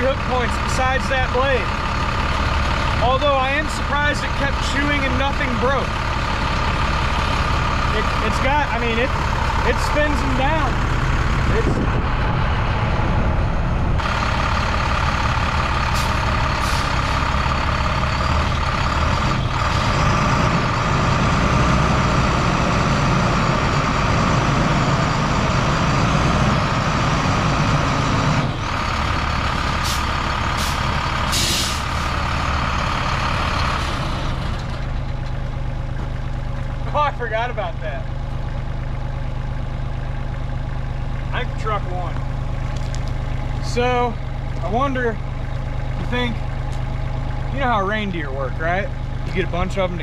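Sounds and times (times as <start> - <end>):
excavator engine working hard: 0.0 - 50.0.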